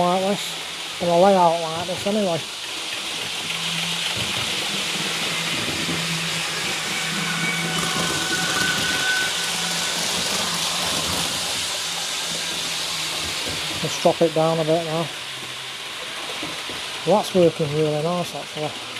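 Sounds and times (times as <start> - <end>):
model train motor and wheels rushing: 0.0 - 18.9.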